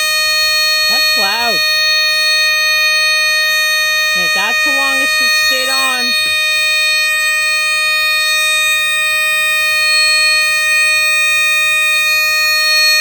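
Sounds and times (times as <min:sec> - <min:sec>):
smoke detector alarm tone: 0:00.0 - 0:13.0.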